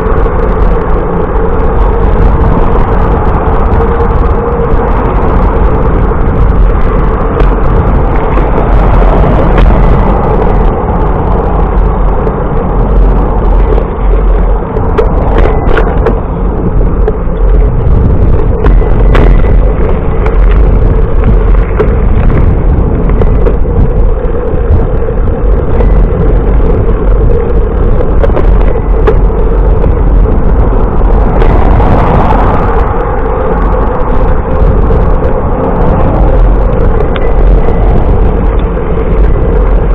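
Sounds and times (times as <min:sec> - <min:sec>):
faint steady hum: 0:00.0 - 0:39.9
wind rumbling on microphone: 0:00.0 - 0:39.9.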